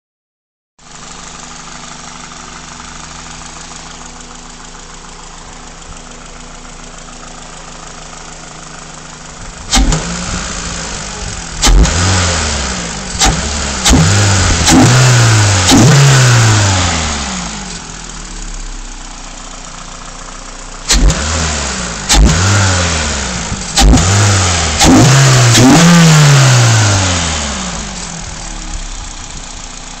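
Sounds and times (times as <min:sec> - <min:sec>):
car engine idling and revving: 0:00.8 - 0:30.0.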